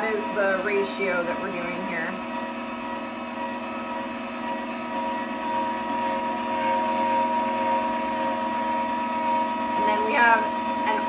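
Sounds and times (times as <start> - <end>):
electric meat grinder running: 0.0 - 11.0.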